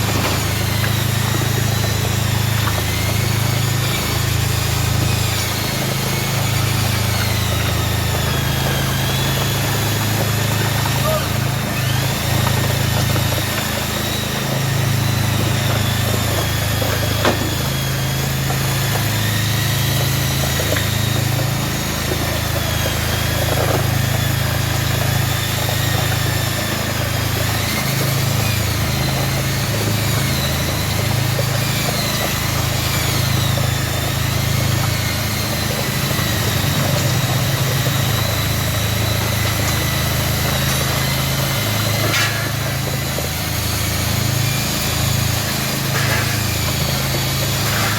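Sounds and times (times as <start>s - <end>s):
high wavering whine: 0.0s - 47.9s
machinery pulsing hum: 0.0s - 47.9s.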